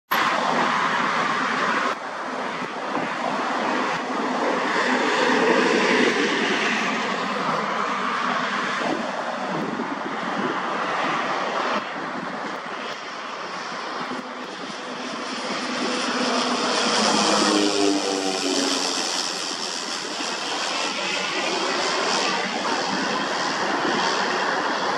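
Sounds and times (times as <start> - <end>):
turboprop plane droning overhead: 0.1 - 24.9.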